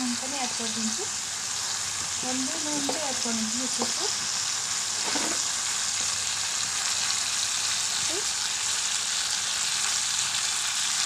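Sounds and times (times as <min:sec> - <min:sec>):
food frying with sizzling hiss: 0:00.0 - 0:11.0.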